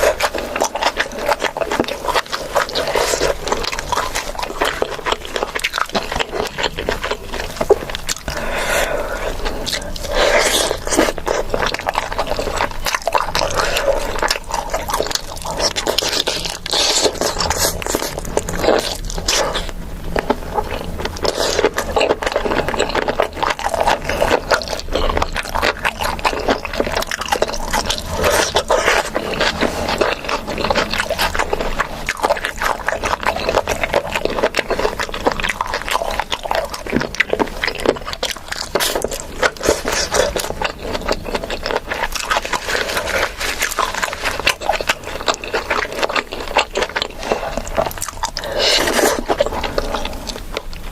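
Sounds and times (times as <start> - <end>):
food scraping: 0.0 - 50.9
wet chewing and mouth smacking: 0.0 - 50.9.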